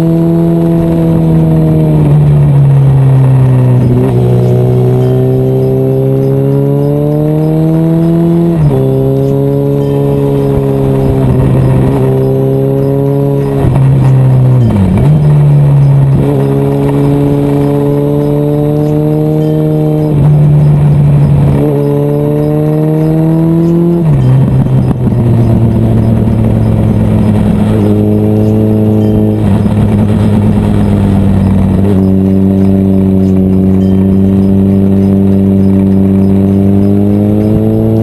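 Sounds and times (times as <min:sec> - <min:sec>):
motorcycle engine on the road: 0:00.0 - 0:38.0.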